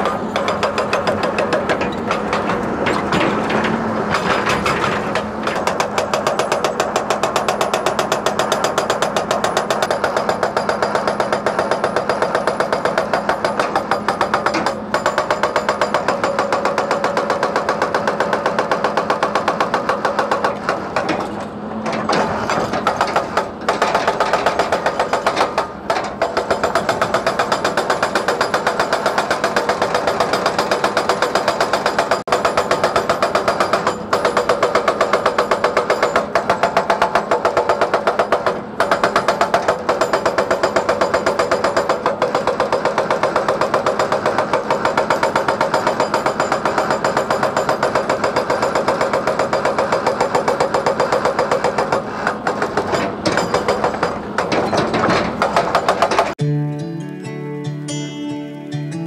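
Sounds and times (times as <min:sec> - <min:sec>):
hydraulic rock breaker hammering: 0:00.0 - 0:56.4.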